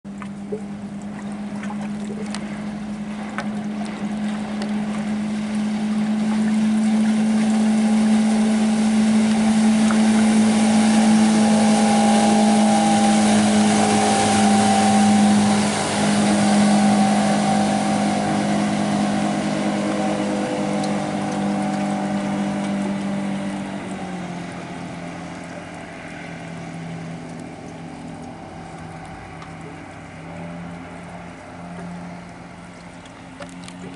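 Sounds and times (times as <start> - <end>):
outboard motor passing: 0.0 - 33.9.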